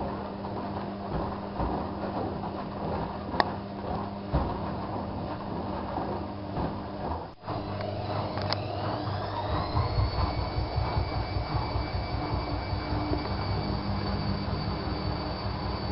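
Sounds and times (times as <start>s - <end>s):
laundry swishing in drum: 0.0s - 15.9s
washing machine motor hum: 0.0s - 15.9s.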